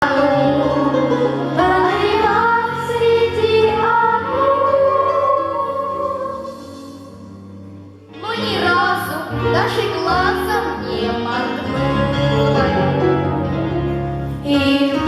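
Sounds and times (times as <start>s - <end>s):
musical accompaniment: 0.0s - 15.0s.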